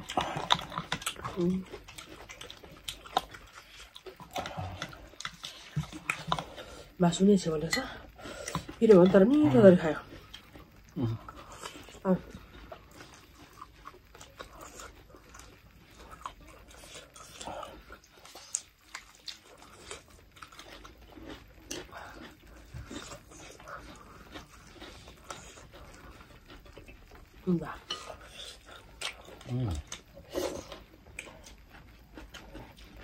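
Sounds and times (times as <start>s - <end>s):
chewing and lip-smacking: 0.0s - 33.0s.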